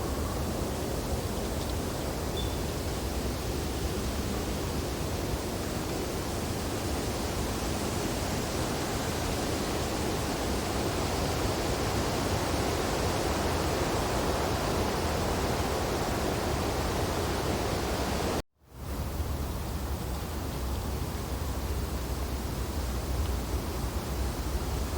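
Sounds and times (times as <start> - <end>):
wind through tree branches: 0.0 - 24.9.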